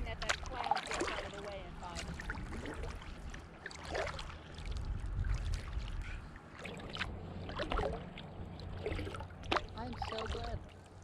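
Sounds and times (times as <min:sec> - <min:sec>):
low rumble: 0:00.0 - 0:11.0
water lapping at kayak hull: 0:00.0 - 0:11.0.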